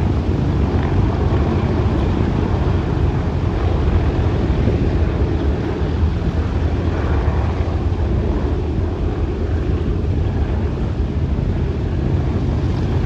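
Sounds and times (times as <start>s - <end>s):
radial aircraft engines droning: 0.0s - 13.0s.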